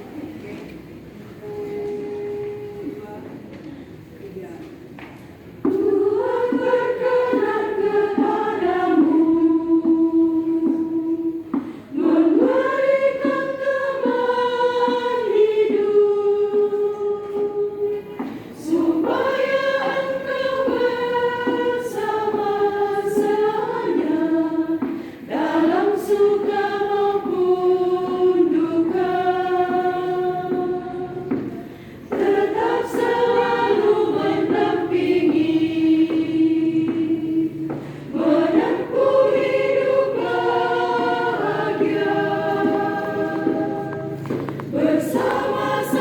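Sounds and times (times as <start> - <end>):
choir singing a hymn: 5.6 - 46.0.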